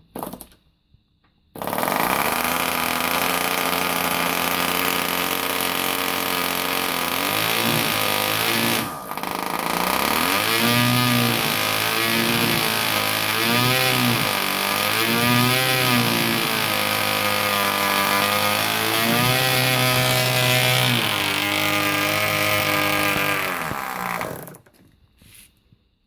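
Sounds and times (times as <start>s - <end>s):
model engine revving: 1.6s - 24.7s.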